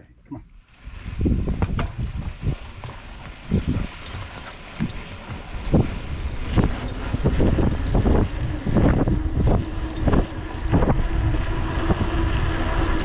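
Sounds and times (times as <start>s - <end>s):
wind: 0.0s - 13.0s
bike tyres rumbling: 0.6s - 13.0s.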